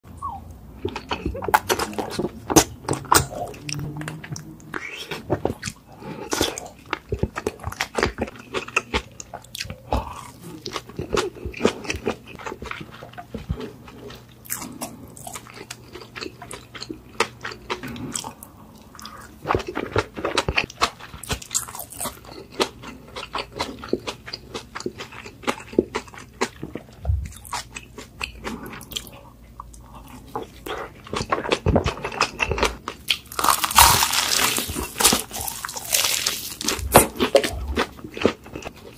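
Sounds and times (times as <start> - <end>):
person chewing crunchy food: 0.3 - 38.9.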